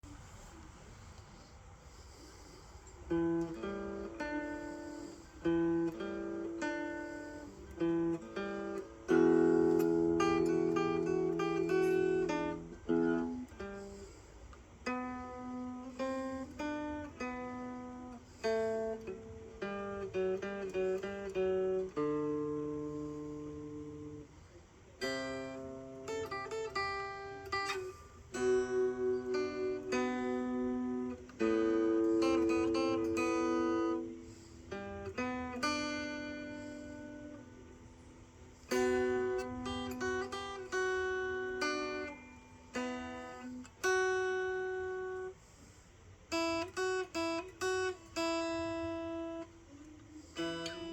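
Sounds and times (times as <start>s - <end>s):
guitar picked notes and chords: 2.8s - 50.9s.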